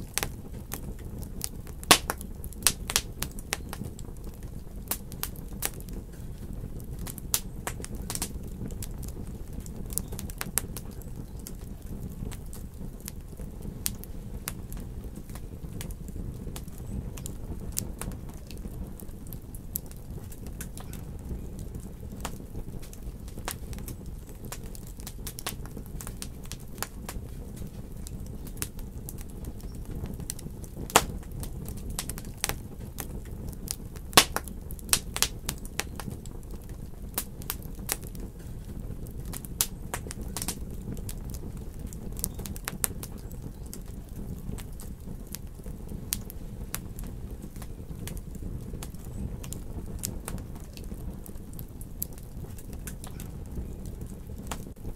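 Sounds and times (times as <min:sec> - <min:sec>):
fire popping: 0:00.0 - 0:54.9
low rumble of fire: 0:00.0 - 0:54.9
wood fire crackling: 0:00.0 - 0:54.9.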